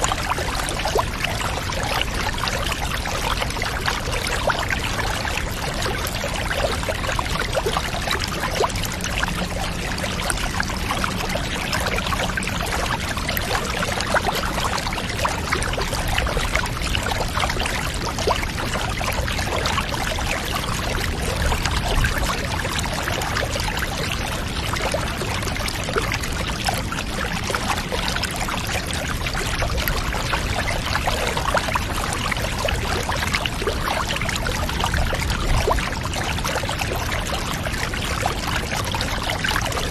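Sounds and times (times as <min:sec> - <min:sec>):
water pouring and trickling: 0:00.0 - 0:39.9.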